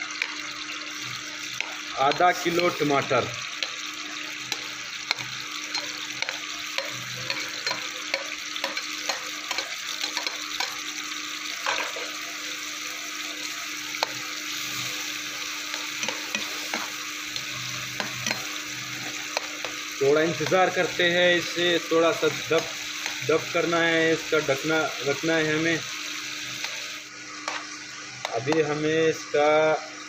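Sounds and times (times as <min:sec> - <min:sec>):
tomatoes sizzling in oil: 0:00.0 - 0:30.0.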